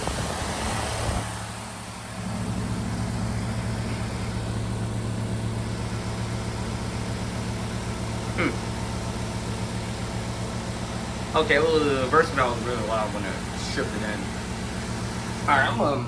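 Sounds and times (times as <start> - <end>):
compressor hum: 0.0 - 16.0.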